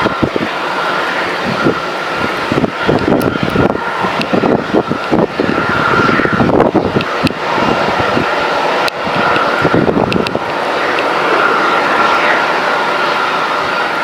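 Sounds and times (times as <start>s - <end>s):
jet engines whining and rumbling: 0.0s - 14.0s.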